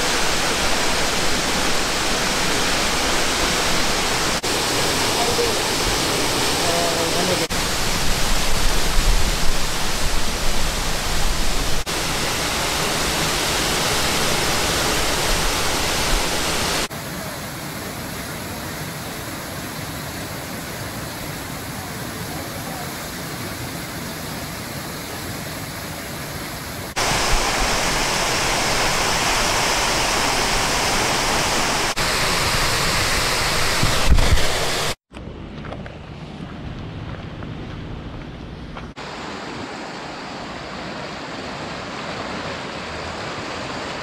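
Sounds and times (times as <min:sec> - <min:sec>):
waterfall rushing: 0:00.0 - 0:35.0, 0:38.9 - 0:44.0.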